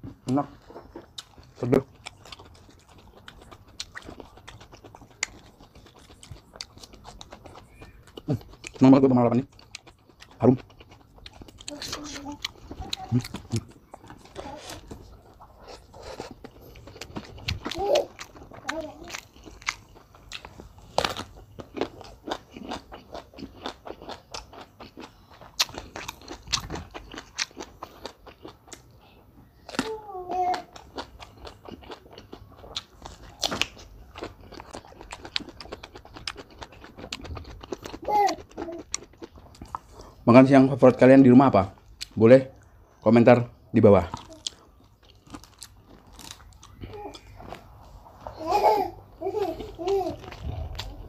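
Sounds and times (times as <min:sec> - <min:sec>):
crunchy chewing: 0:00.3 - 0:29.9, 0:30.5 - 0:41.2, 0:44.0 - 0:48.4.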